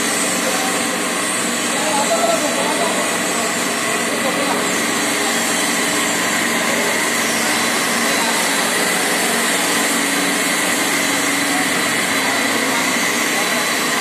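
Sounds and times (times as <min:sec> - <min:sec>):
machinery running steadily: 0:00.0 - 0:14.0.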